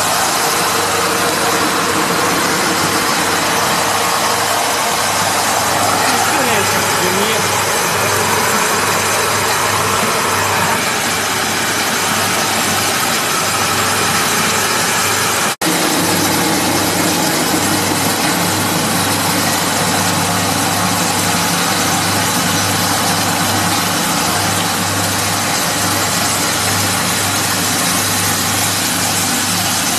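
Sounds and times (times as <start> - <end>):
pellet mill humming: 0.0 - 29.9.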